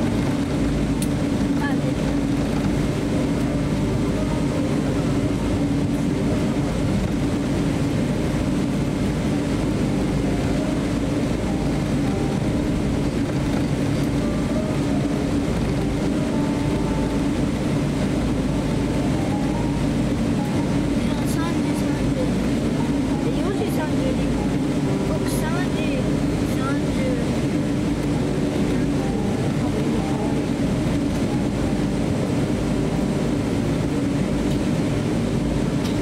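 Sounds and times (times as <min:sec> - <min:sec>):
airplane cabin drone while taxiing: 0:00.0 - 0:36.0.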